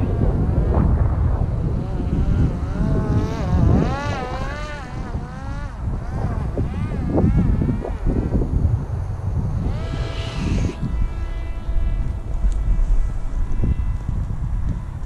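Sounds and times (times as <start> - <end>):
wavering pitched whine: 0.0 - 15.0
wind buffeting microphone: 0.0 - 15.0.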